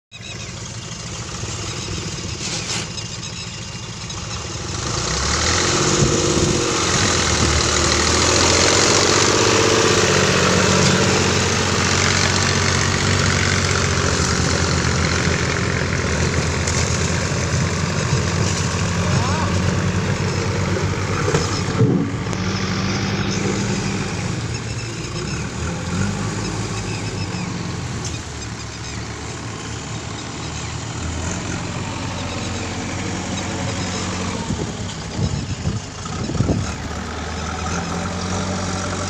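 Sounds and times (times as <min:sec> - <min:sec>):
diesel tractor engine running: 0:00.1 - 0:39.0.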